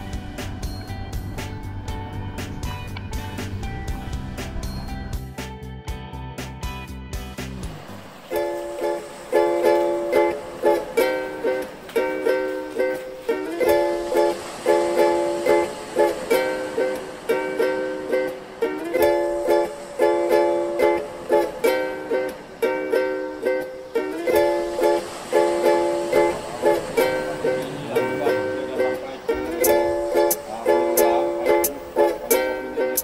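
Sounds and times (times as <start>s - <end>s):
strummed chords: 0.0s - 33.0s.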